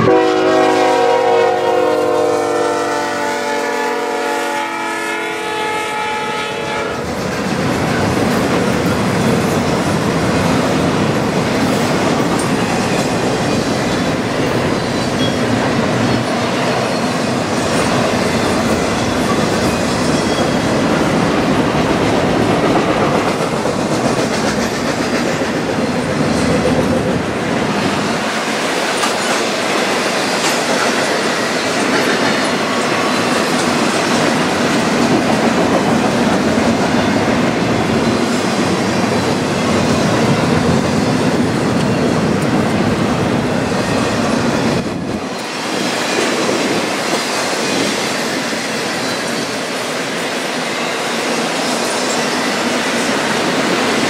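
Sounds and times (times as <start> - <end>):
train wheels rumbling on rails: 5.0 - 54.0.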